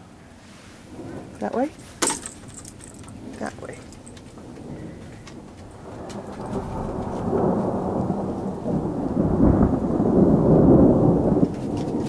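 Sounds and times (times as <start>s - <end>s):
rolling thunder: 0.8s - 12.0s.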